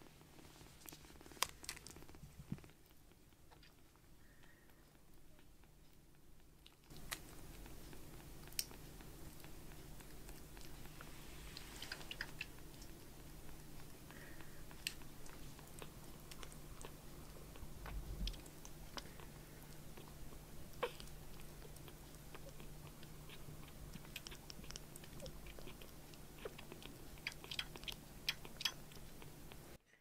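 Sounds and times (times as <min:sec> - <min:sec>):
kitten sucking from a bottle: 0:00.2 - 0:05.8, 0:06.6 - 0:29.7.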